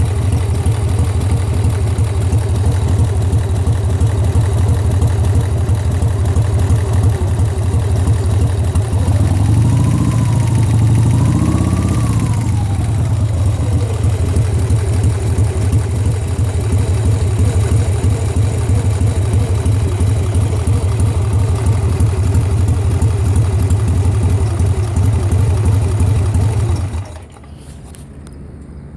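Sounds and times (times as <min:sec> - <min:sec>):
motorcycle engine idling with knock: 0:00.0 - 0:28.3.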